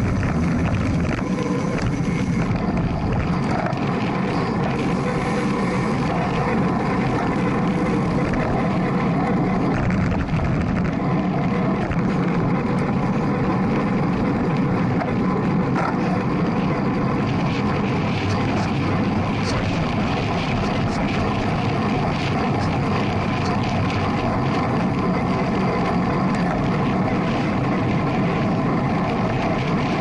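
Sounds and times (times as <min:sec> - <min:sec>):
road noise: 0:00.0 - 0:30.0
wind rush: 0:00.0 - 0:30.0.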